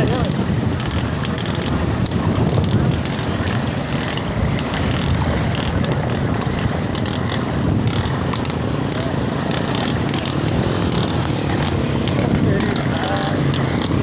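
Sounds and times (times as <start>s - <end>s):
floodwater rushing: 0.0s - 14.0s
water splashing: 0.0s - 14.0s.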